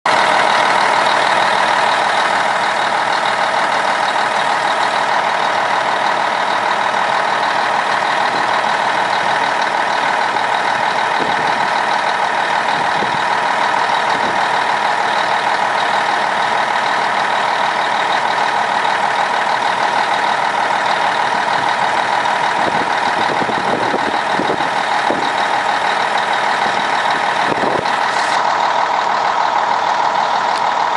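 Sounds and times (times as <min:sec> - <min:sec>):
bus diesel engine running: 0:00.1 - 0:30.9.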